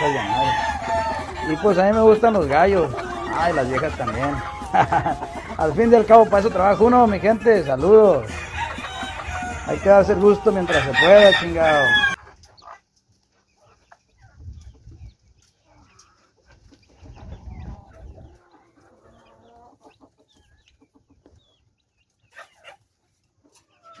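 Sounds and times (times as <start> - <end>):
roosters clucking and calling: 0.0 - 24.0.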